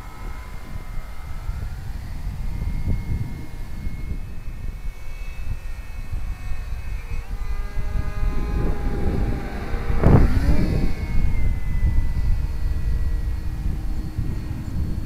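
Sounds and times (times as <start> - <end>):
model plane motor whining overhead: 0.0 - 15.0.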